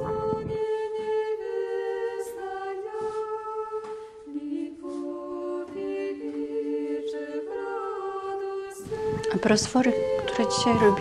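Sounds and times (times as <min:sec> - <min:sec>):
a cappella choir singing chords: 0:00.0 - 0:11.0.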